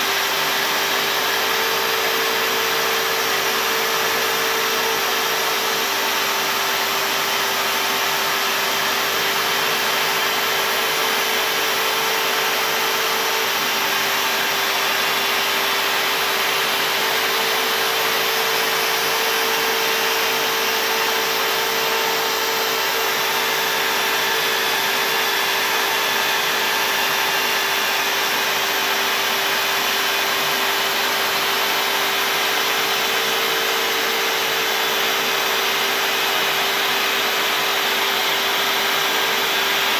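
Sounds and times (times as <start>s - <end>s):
dust extraction vacuum rushing: 0.0s - 39.9s
router spindle whining: 0.0s - 39.9s.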